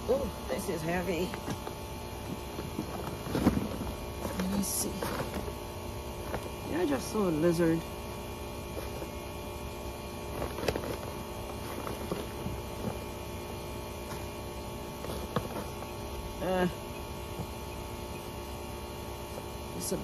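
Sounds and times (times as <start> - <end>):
steady multi-tone hum: 0.0 - 20.0.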